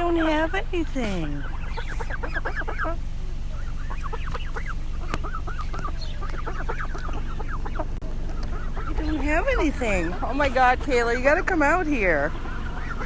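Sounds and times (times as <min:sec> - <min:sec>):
steady low rumble: 0:00.0 - 0:13.0
waterfowl calling: 0:00.0 - 0:13.0.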